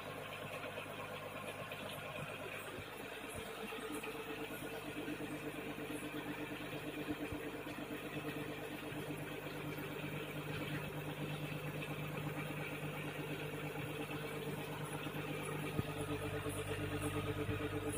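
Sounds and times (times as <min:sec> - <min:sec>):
aquarium air pump humming: 0:00.0 - 0:17.9.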